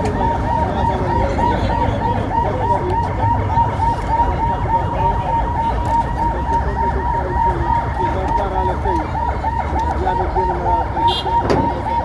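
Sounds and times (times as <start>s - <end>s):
sirens warbling: 0.0s - 12.0s.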